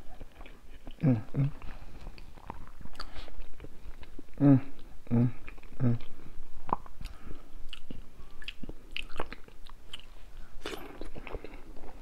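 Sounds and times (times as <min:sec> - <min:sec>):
wet chewing and lip smacks: 0:02.0 - 0:12.0.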